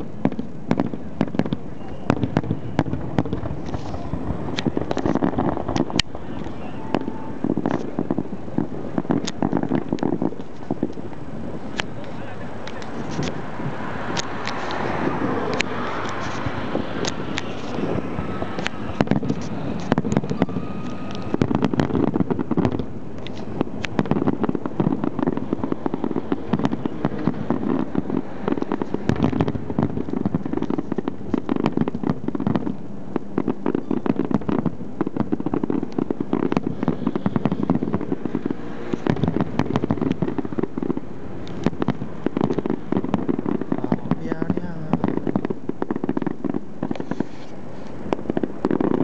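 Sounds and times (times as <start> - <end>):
fireworks barrage: 0.0 - 49.0.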